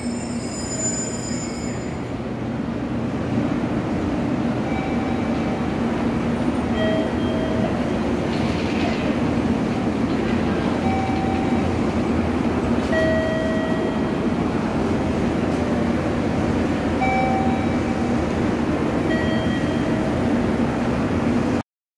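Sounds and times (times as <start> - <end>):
standing train hum: 0.0 - 21.6.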